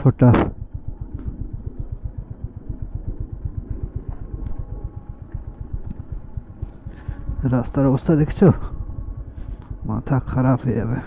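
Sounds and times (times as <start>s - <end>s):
motorcycle engine cruising: 0.0s - 11.0s
ride noise: 0.0s - 11.0s.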